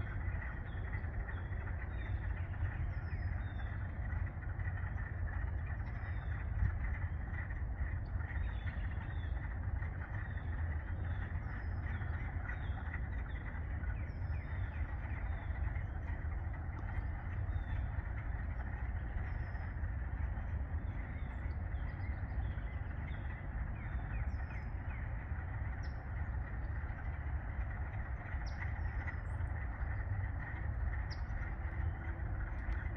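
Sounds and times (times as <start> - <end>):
frogs trilling: 0.0 - 32.9
low steady rumble: 0.0 - 32.9.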